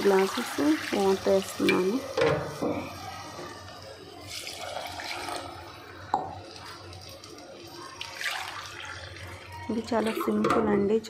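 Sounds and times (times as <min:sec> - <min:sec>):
water pouring into a clay pot: 0:00.0 - 0:02.0, 0:02.9 - 0:10.4.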